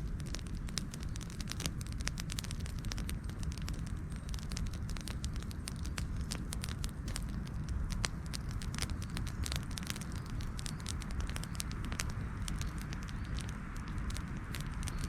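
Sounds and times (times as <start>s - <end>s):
campfire crackling and popping: 0.0s - 15.0s
low rumble of flame: 0.0s - 15.0s.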